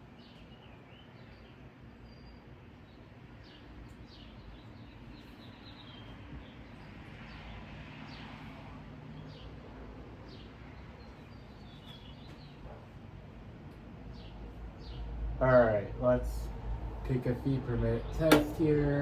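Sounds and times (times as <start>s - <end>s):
small birds chirping: 0.0s - 8.4s, 9.1s - 16.5s.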